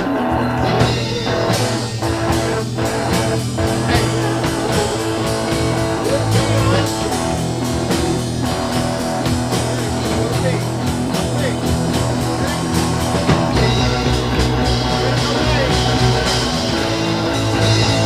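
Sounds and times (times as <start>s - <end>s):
instrumental blues rock music: 0.0s - 18.0s.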